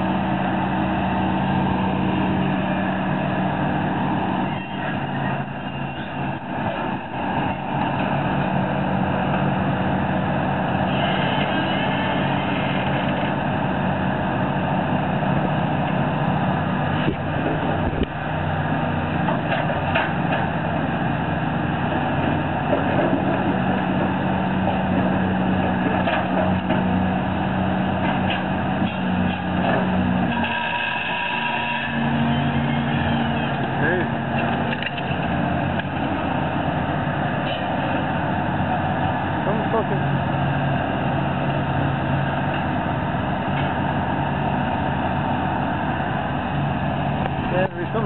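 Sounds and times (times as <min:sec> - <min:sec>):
excavator diesel engines running: 0:00.0 - 0:48.0.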